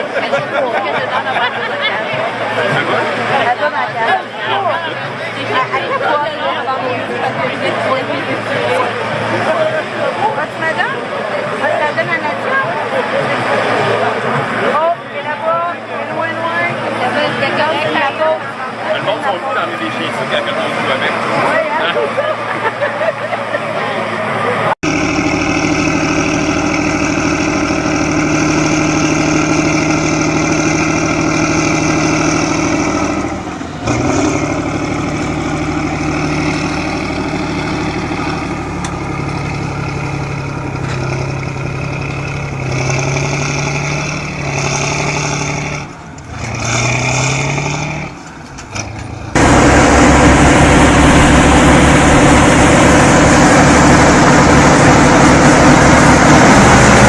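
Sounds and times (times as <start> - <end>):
heavy vehicle engines revving: 0.0 - 57.0
rough loud engine noise: 0.0 - 57.0.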